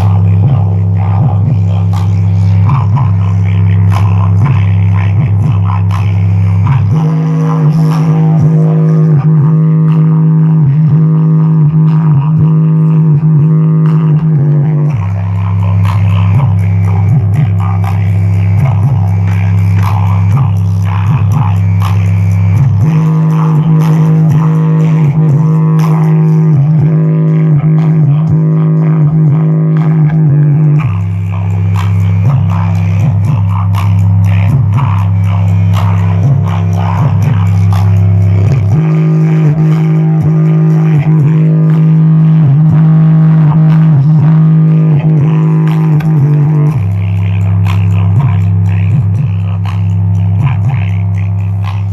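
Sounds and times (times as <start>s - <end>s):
bass-boosted music from subwoofer: 0.0s - 51.9s.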